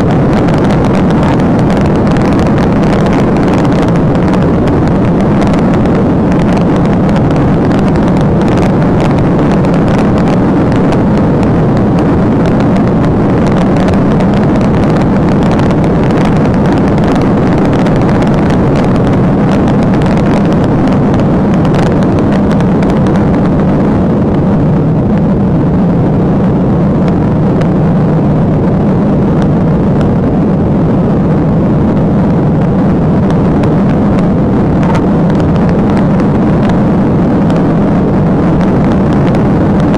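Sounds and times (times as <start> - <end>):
car engine at high speed: 0.0 - 39.9
tyre and wind noise: 0.0 - 39.9.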